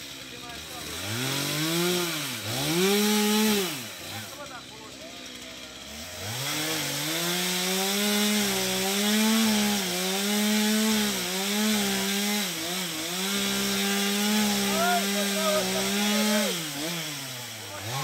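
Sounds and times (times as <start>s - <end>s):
chainsaw revving and cutting wood: 0.0s - 18.0s.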